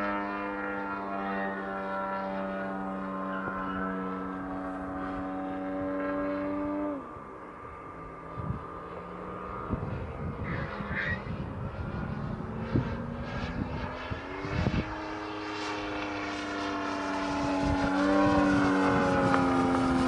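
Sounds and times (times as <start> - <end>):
model plane engine running: 0.0 - 6.0, 7.4 - 20.0.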